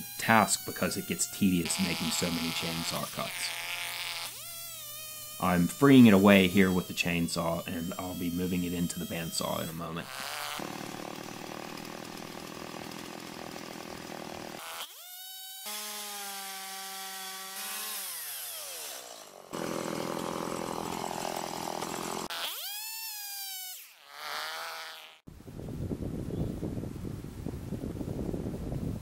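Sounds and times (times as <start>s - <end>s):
chainsaw cutting wood: 0.0s - 25.2s.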